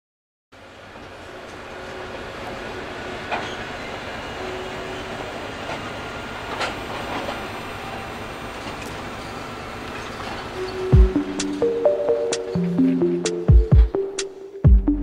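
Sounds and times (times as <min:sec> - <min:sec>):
freight train rumbling: 0:00.6 - 0:14.2
wheels clacking over rails: 0:00.9 - 0:04.2, 0:04.8 - 0:13.6.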